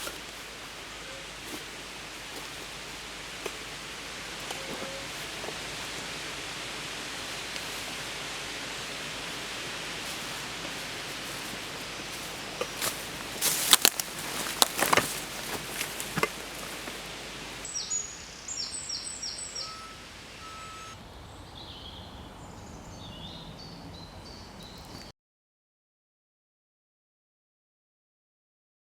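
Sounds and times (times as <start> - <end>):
birds chirping: 0.0 - 25.1
wind through trees: 0.0 - 25.1.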